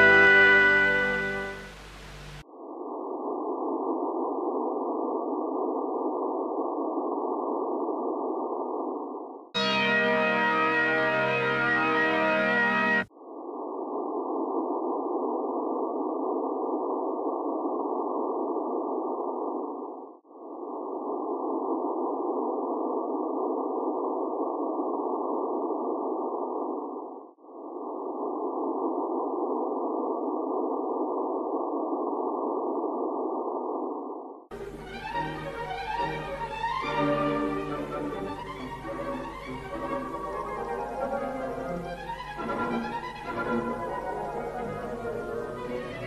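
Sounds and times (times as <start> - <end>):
muffled static hiss: 0.0 - 46.0.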